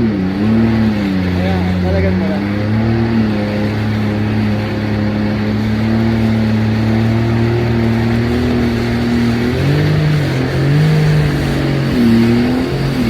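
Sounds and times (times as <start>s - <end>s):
boat engine droning: 0.0s - 13.0s
rushing water noise: 0.0s - 13.0s.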